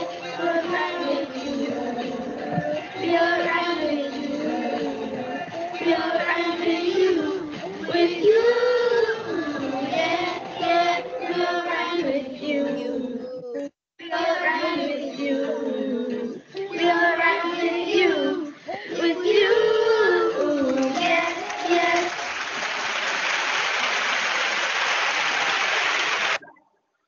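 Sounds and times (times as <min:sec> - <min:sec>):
children singing together: 0:00.0 - 0:22.4.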